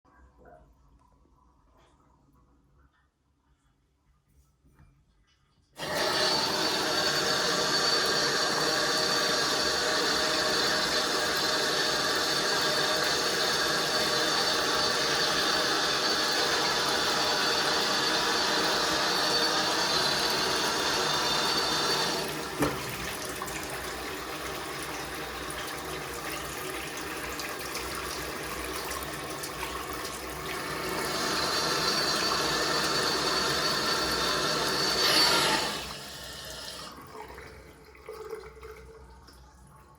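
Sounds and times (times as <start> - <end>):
water running from tap: 5.8 - 39.9.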